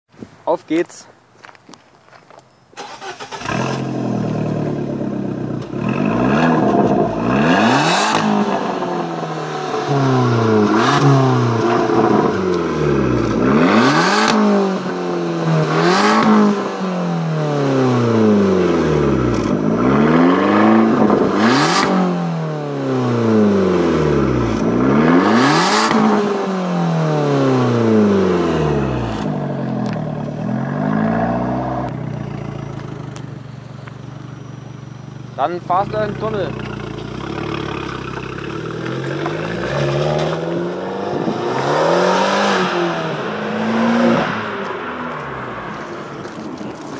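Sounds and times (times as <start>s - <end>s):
exhaust cracks: 2.8s - 16.7s, 17.6s - 22.0s, 23.1s - 26.4s, 27.3s - 46.9s
car engine revving: 2.8s - 46.9s.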